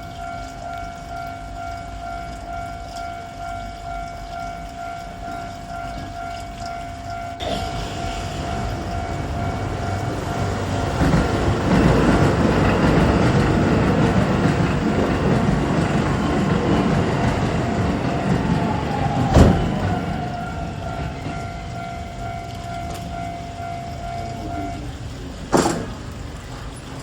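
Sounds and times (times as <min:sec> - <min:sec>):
level crossing warning bell: 0:00.0 - 0:27.0
electric train wheels rumbling on track: 0:03.4 - 0:27.0.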